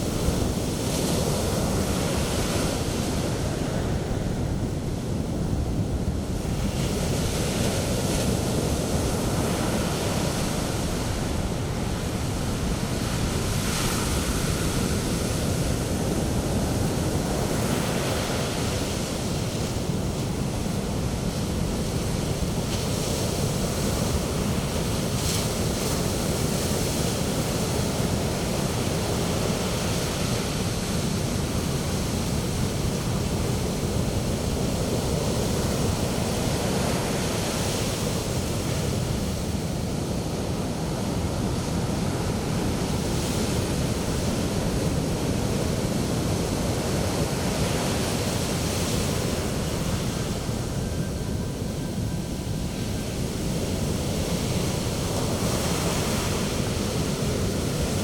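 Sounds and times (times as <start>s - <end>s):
hiss of foaming surf: 0.0s - 58.0s
sea waves breaking on beach: 0.0s - 58.0s.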